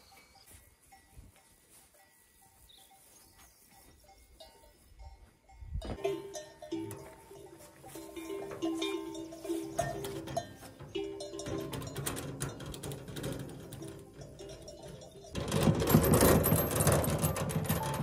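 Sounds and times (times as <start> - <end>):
cowbells clanking: 0.0 - 18.0.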